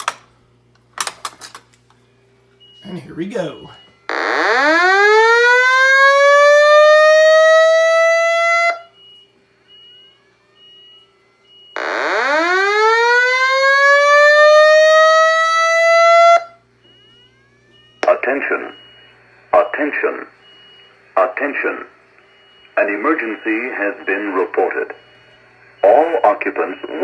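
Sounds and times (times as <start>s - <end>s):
fire alarm whoop tone: 2.6s - 27.0s.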